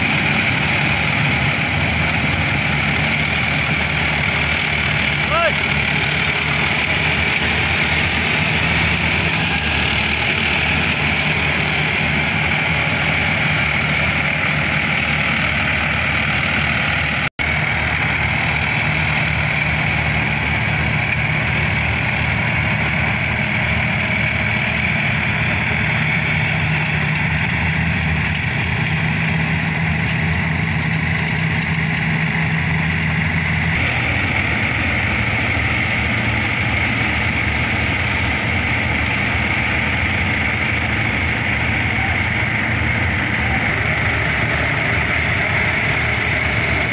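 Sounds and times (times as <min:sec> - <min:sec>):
combine harvester engine and threshing: 0:00.0 - 0:46.9.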